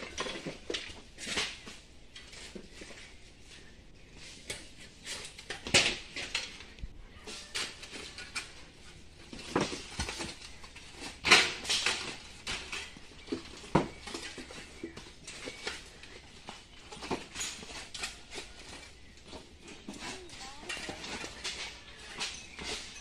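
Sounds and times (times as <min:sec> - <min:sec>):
hard objects clattering: 0:00.0 - 0:03.2, 0:04.4 - 0:23.0.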